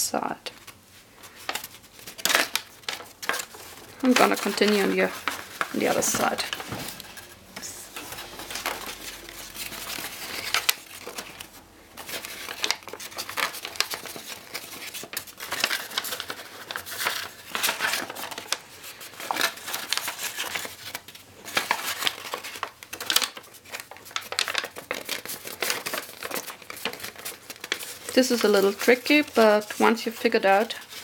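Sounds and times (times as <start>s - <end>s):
paper crinkling: 0.5s - 31.0s.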